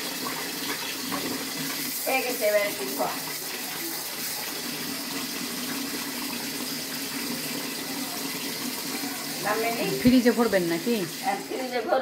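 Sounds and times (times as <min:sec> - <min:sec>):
tap water running into basin: 0:00.0 - 0:12.0.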